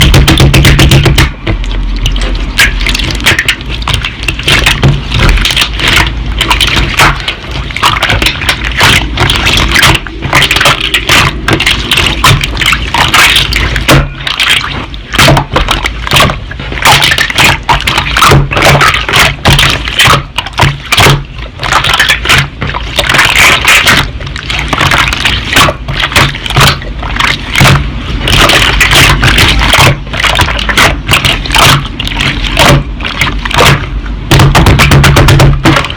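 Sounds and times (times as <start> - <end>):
slime squishing with wet pops: 0.0 - 35.9.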